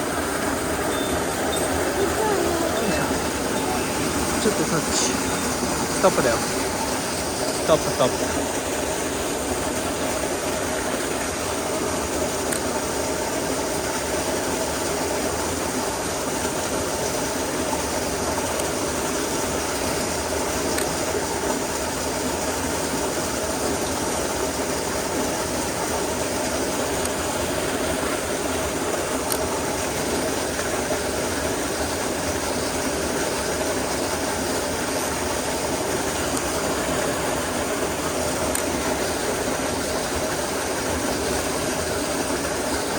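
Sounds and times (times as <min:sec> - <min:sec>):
stream rushing: 0:00.0 - 0:42.9.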